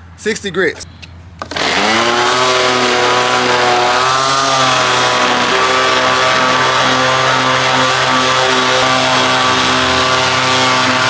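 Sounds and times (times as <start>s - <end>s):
electric sander running: 1.4s - 11.0s.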